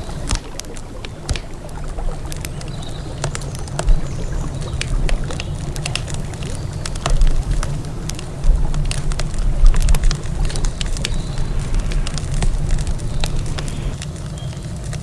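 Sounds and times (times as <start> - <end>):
river flowing: 0.0 - 14.2
campfire crackling: 0.0 - 14.3.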